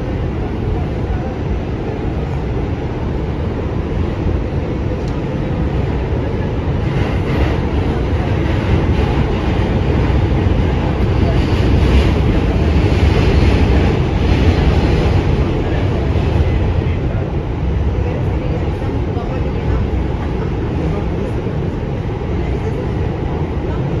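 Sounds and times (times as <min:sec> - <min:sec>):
subway train rumble from inside: 0:00.0 - 0:24.0.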